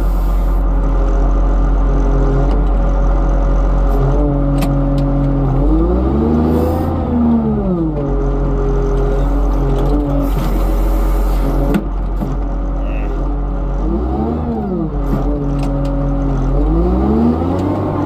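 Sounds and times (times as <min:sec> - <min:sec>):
diesel engine revving: 0:00.0 - 0:18.0.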